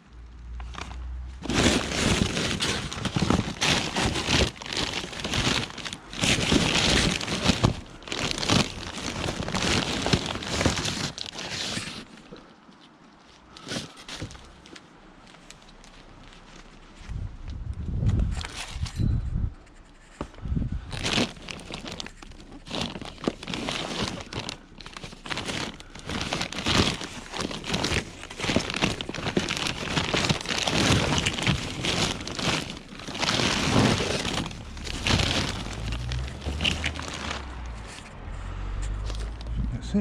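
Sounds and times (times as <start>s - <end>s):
rummaging through plastic and metal: 0.4s - 17.2s, 18.2s - 39.6s.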